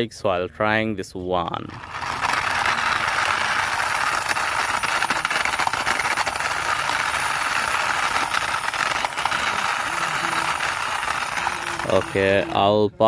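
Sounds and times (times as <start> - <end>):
toy wheels and gears clicking: 1.6 - 12.8.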